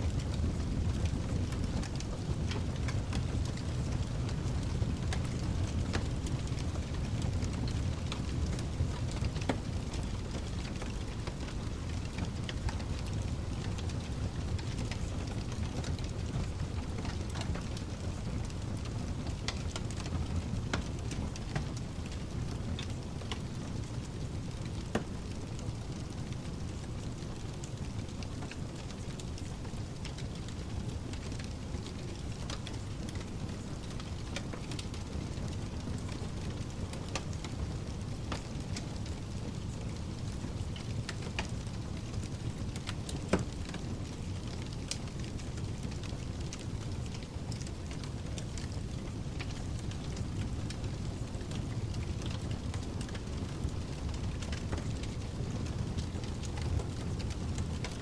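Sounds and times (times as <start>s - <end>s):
fire pops and snaps: 0.0s - 58.0s
steady pink noise: 0.0s - 58.0s
wood fire crackling: 0.0s - 58.0s.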